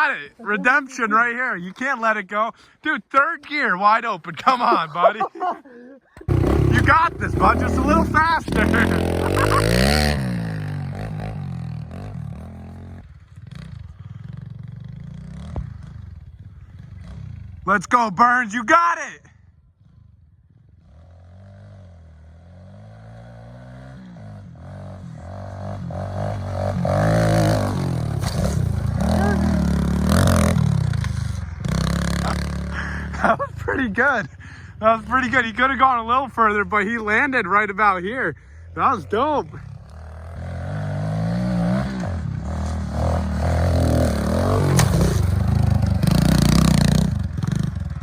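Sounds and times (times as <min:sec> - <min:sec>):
dirt bike engine revving: 0:06.2 - 0:17.7, 0:20.7 - 0:48.0.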